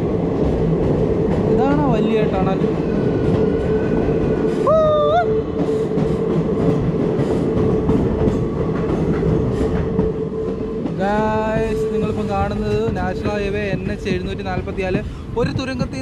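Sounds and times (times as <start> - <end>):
train rumbling hum: 0.0 - 16.0.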